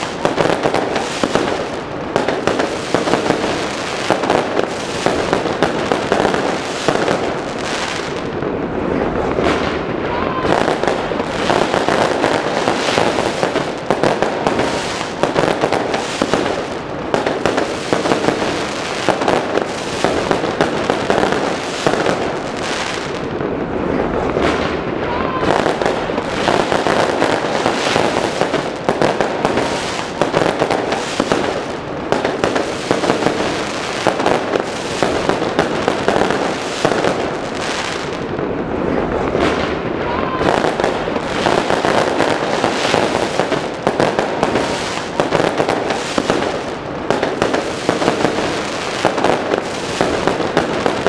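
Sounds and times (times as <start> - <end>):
fireworks bangs and crackling pops: 0.0 - 51.0.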